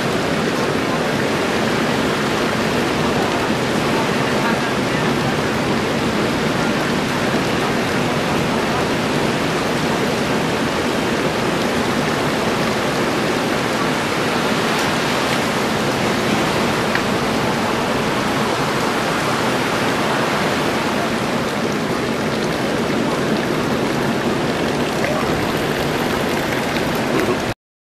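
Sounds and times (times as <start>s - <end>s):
steady rushing noise: 0.0s - 27.6s.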